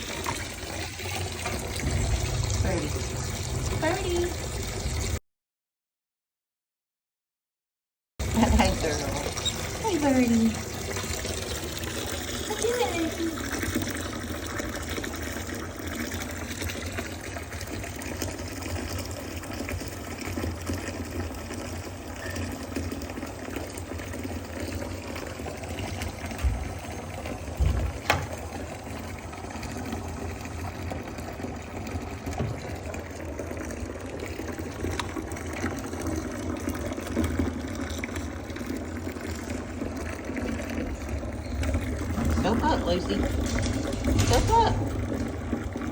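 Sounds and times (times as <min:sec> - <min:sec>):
tap water running into bath: 0:00.0 - 0:05.2, 0:08.2 - 0:45.9.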